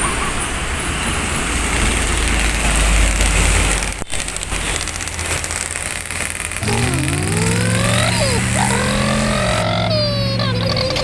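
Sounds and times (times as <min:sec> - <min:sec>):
road noise hiss: 0:00.0 - 0:11.0
vehicle engine rumble: 0:00.0 - 0:11.0.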